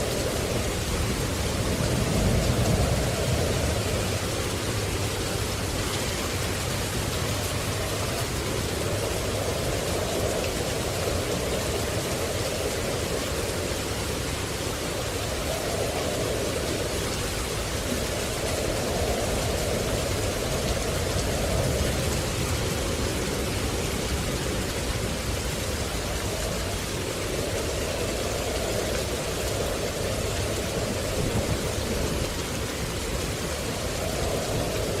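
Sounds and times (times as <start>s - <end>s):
rushing nature ambience: 0.0s - 35.0s.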